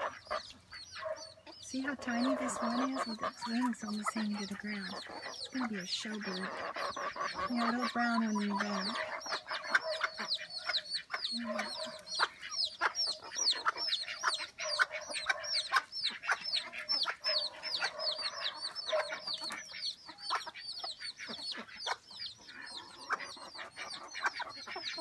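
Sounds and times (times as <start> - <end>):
chicks peeping: 0.0 - 25.0
hen clucking: 0.0 - 25.0.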